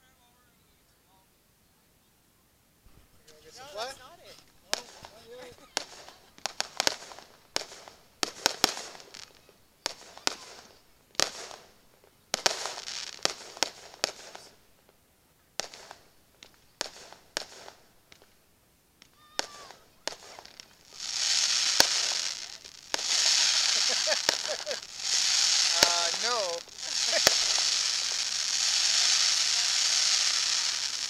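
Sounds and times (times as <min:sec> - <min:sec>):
firework crackling: 0:02.9 - 0:31.0
firework bangs: 0:03.4 - 0:14.8, 0:15.6 - 0:18.4, 0:19.0 - 0:31.0.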